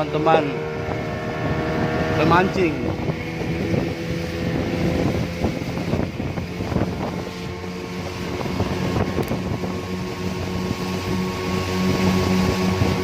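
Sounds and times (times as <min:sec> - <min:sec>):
outboard motor running: 0:00.0 - 0:13.0
wind buffeting microphone: 0:00.0 - 0:13.0.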